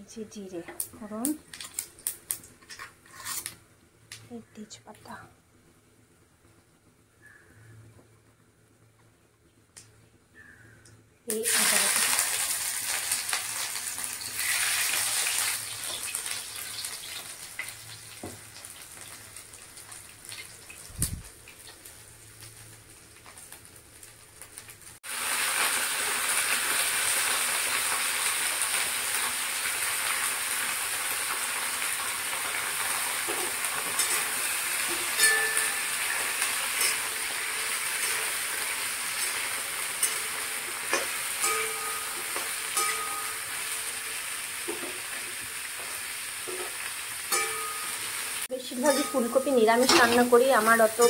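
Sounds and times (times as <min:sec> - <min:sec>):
food sizzling in hot oil: 0:00.5 - 0:03.6, 0:11.3 - 0:51.0.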